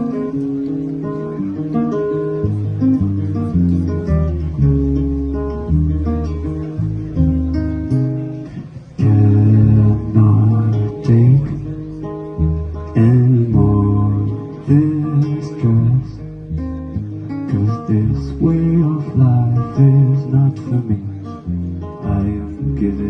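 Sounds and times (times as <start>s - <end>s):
bass guitar: 0.0s - 23.0s
strummed acoustic guitar: 0.0s - 23.0s.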